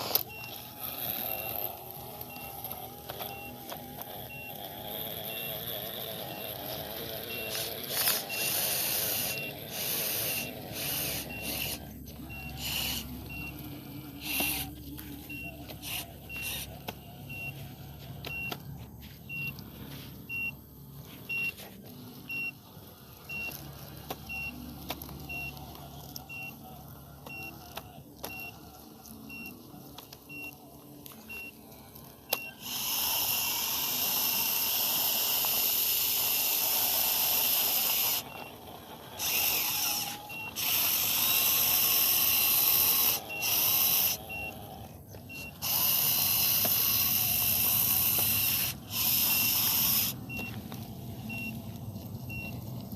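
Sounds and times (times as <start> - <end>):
electronic warning beeps: 0.0 - 52.9
small motors whirring: 0.0 - 52.9.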